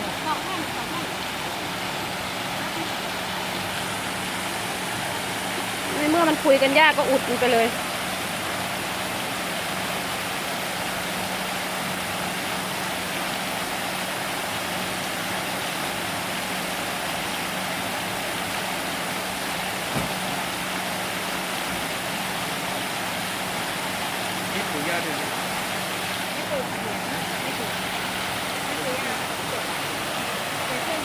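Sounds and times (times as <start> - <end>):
water rushing over rocks: 0.0 - 31.0.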